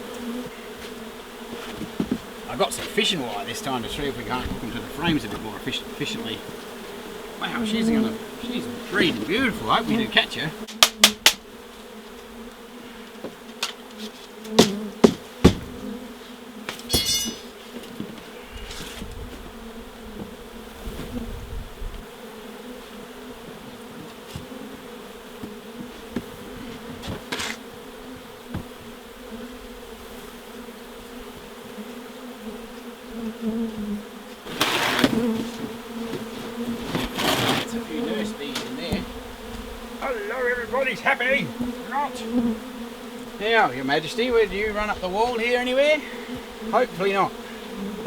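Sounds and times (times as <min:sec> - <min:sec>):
honeybee colony buzzing: 0:00.0 - 0:48.0.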